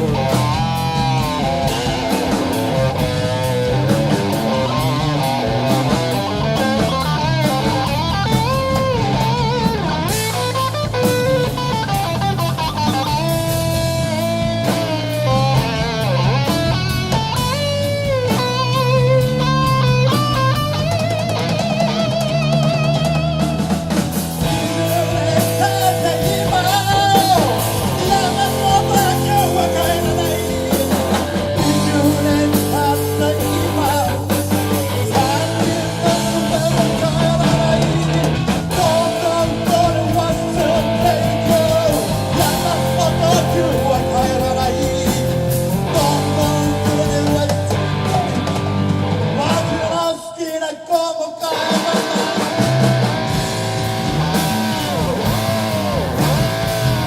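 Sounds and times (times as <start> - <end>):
lead electric guitar melody: 0.0 - 50.0, 52.5 - 57.0
bass guitar: 0.0 - 50.3, 51.6 - 57.0
drum kit: 0.0 - 57.0.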